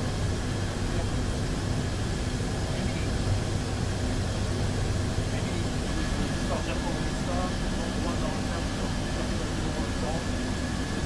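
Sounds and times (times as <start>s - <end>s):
faint steady whines: 0.0s - 11.0s
turboprop engines rumbling: 0.0s - 11.0s.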